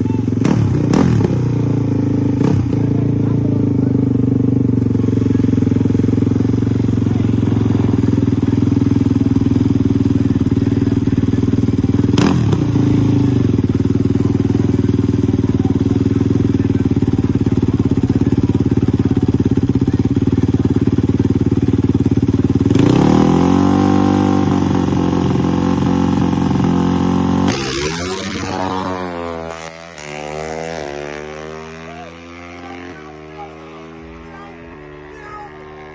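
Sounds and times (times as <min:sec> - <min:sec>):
dirt bike engine revving high: 0:00.0 - 0:35.9.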